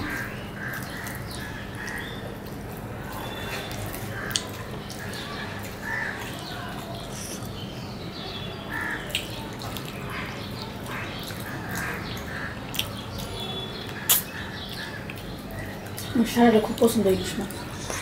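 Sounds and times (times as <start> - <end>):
chewing and lip smacks: 0.1 - 7.6, 9.1 - 16.1.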